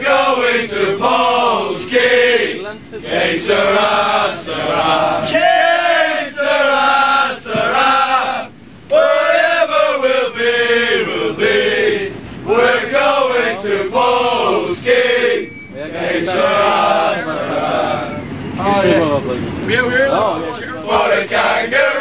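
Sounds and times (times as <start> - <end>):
crowd singing a chant: 0.0 - 18.8, 19.8 - 22.0.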